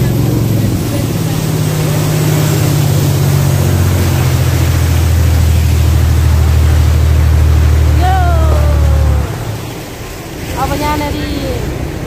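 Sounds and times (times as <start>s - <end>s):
boat engine drone: 0.0s - 12.0s
rushing water and air hiss: 0.0s - 12.0s.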